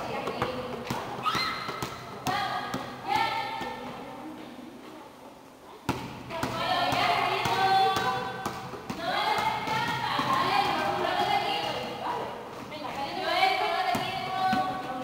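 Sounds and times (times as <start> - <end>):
basketball bouncing on concrete: 0.0 - 4.0, 5.9 - 15.0.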